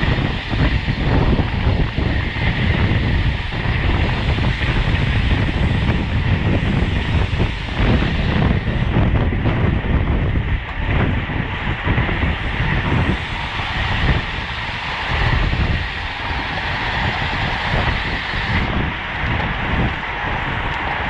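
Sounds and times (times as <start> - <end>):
road noise rushing: 0.0 - 21.0
wind buffeting microphone: 0.0 - 21.0.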